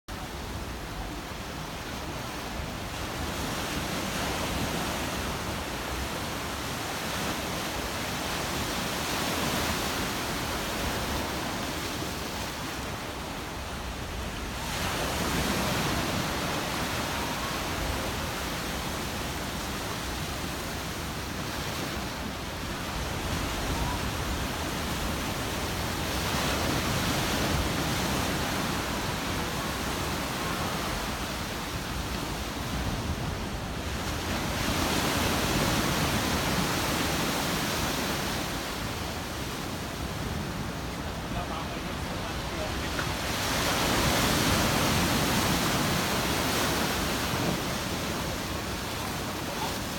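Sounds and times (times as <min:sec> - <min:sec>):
storm waves breaking: 0:00.1 - 0:49.9.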